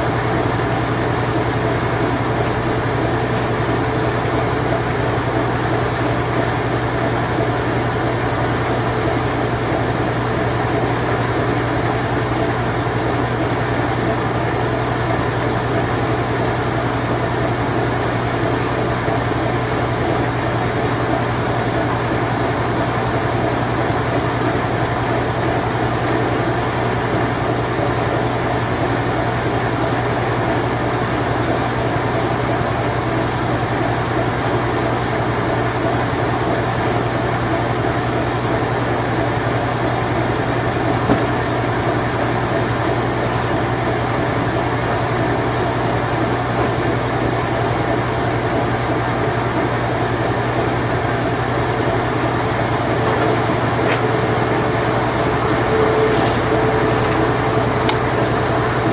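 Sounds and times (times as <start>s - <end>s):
washing machine spinning: 0.0s - 58.9s.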